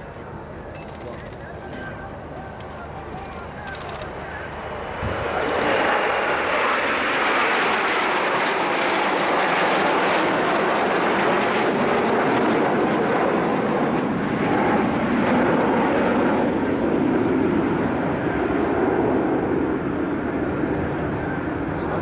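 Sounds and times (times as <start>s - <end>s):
jet aircraft flying overhead: 0.0s - 22.0s.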